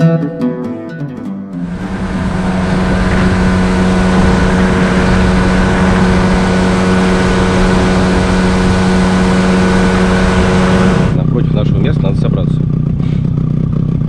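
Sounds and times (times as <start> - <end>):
outboard motor running: 1.6 - 14.0.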